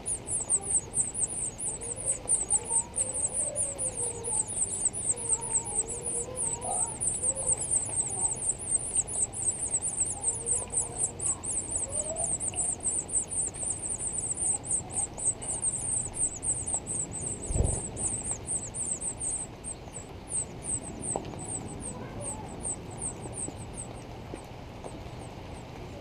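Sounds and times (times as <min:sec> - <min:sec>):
nestlings chirping: 0:00.0 - 0:24.1.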